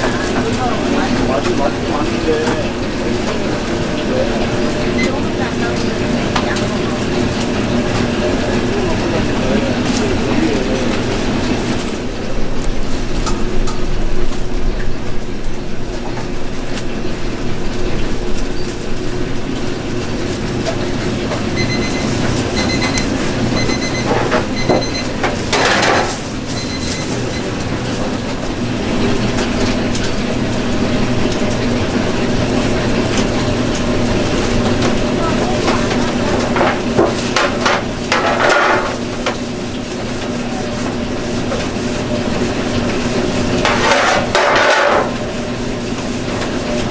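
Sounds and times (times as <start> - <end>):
cooking equipment machine hum: 0.0 - 46.9.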